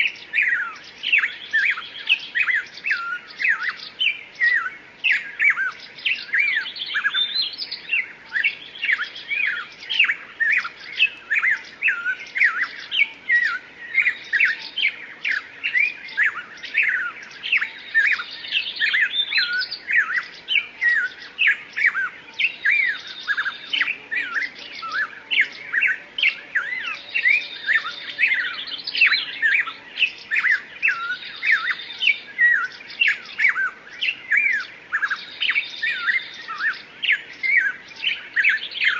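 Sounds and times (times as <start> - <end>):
many birds chirping: 0.0 - 38.9.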